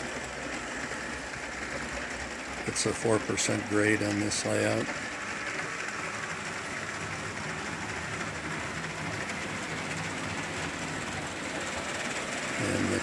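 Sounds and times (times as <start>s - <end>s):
diesel engine sound from speaker: 0.0s - 13.0s
toy train motors and wheels on track: 0.0s - 13.0s.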